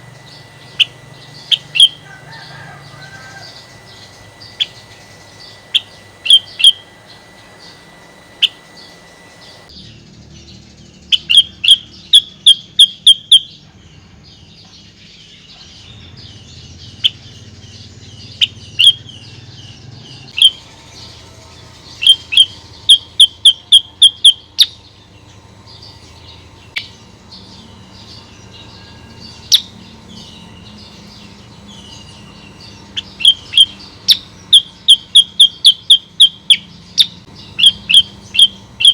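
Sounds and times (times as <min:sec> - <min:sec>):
bird sharp chirps: 0:00.0 - 0:13.6, 0:15.5 - 0:38.9.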